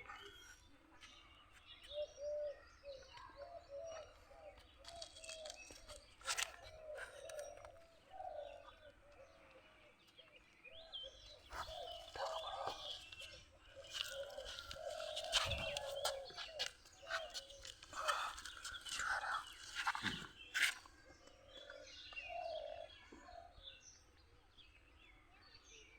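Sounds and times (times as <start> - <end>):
birds chirping: 0.0 - 25.7.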